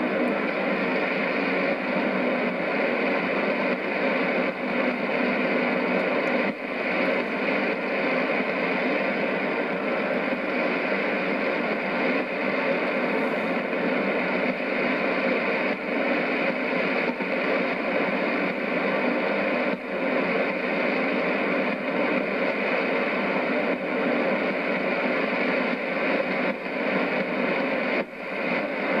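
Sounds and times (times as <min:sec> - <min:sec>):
radio static: 0:00.0 - 0:29.0.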